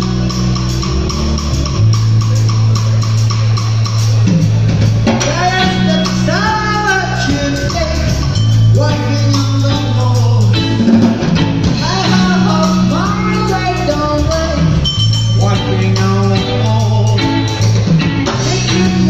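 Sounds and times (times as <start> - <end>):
bending melodic line: 0.0 - 19.0
drum kit: 0.0 - 19.0
electric bass: 0.0 - 19.0.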